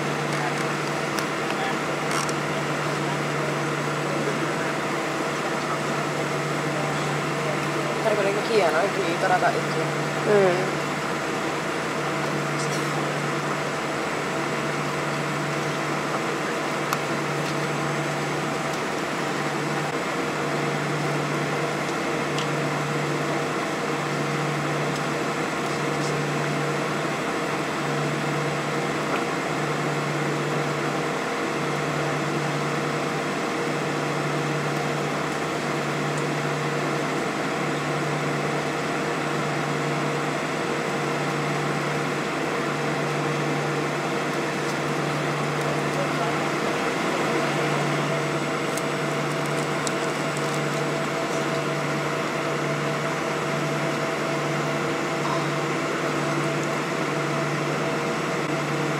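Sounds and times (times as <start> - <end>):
jet engines at low power: 0.0 - 58.9
low pulsing hum: 0.0 - 58.9.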